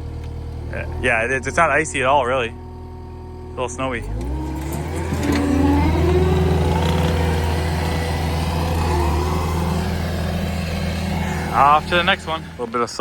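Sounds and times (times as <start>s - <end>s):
vehicle engine revving up: 0.0s - 13.0s.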